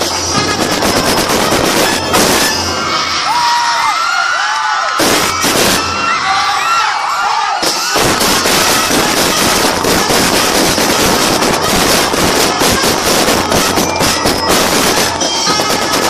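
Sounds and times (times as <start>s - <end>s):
firecrackers crackling: 0.0s - 3.8s, 4.8s - 6.8s, 7.6s - 16.0s.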